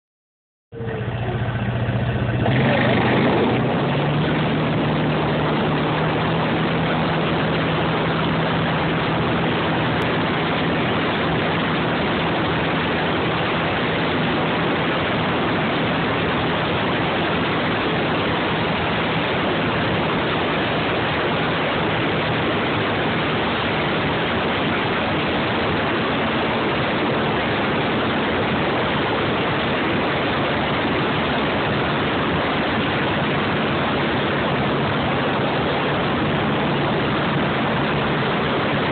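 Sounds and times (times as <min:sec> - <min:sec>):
quad engine humming: 0:00.7 - 0:38.9
wind buffeting microphone: 0:00.8 - 0:38.9.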